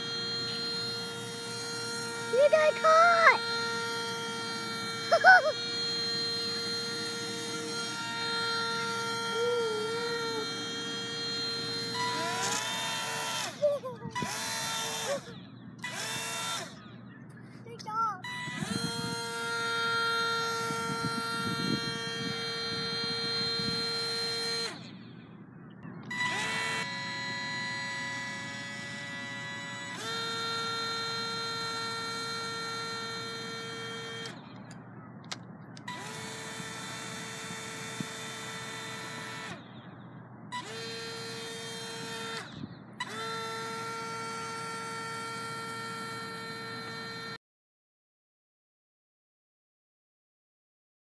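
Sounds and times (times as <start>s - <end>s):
small electric motor whine: 0.0s - 17.2s, 18.1s - 47.4s.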